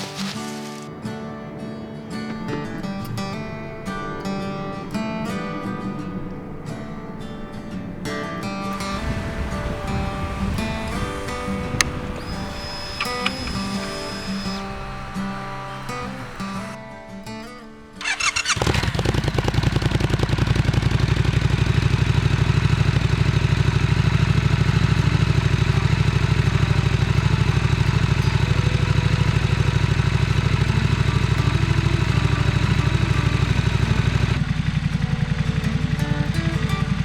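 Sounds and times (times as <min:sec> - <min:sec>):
motorcycle engine starting and idling: 0:00.0 - 0:16.8, 0:17.6 - 0:37.0.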